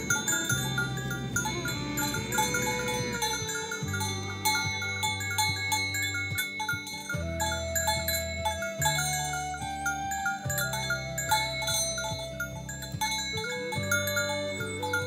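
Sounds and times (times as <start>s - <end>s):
bells chiming: 0.0s - 15.0s
long low tones: 0.0s - 15.0s.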